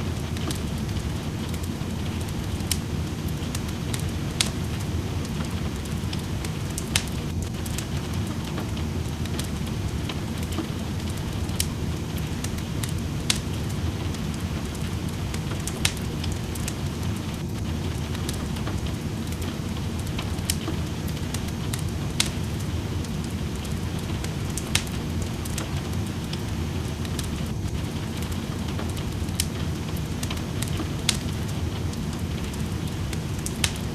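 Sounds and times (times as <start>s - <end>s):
rain rushing: 0.0s - 33.9s
wood fire crackling: 0.0s - 33.9s.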